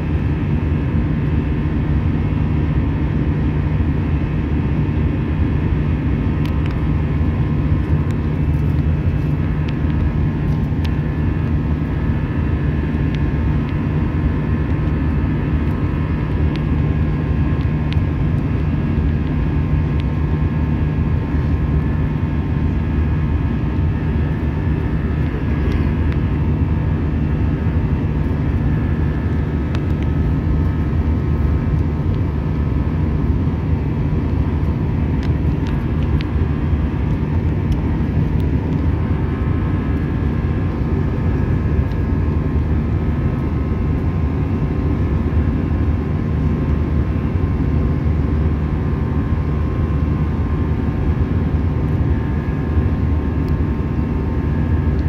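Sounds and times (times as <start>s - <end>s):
airplane cabin engine rumble: 0.0s - 55.0s
faint steady whine: 0.0s - 55.0s.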